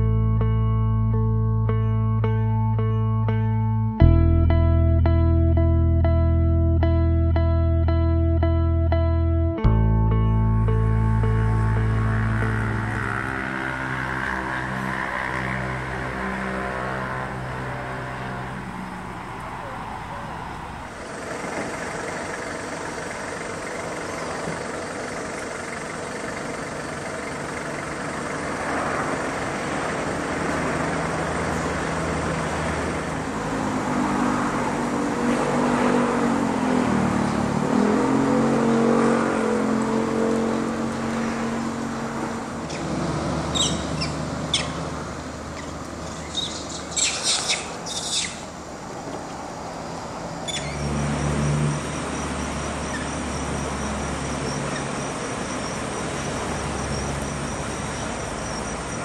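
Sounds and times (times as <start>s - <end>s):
motor vehicle engine hum: 0.0s - 59.0s.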